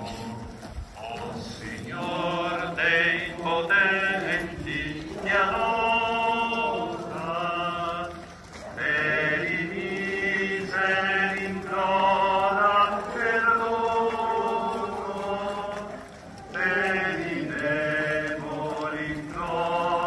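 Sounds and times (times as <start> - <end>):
people singing a hymn: 0.0 - 20.0.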